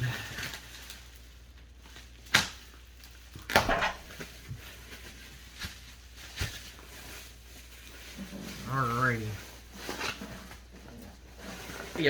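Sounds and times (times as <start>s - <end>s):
tape crinkling rip: 0.0s - 10.7s
bubble wrap cracking: 0.0s - 12.0s.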